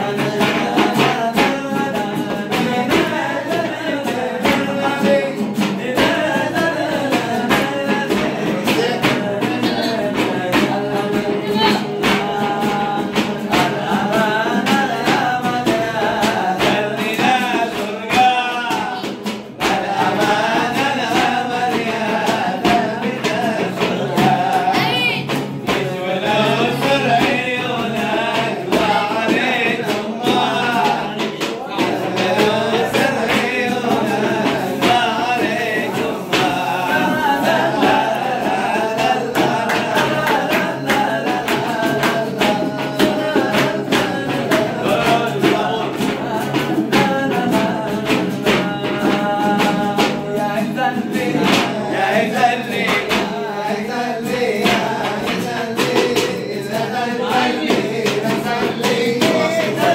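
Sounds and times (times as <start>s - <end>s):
hand clapping: 0.0s - 59.9s
men singing together: 0.0s - 59.9s
strummed acoustic guitar: 0.0s - 59.9s.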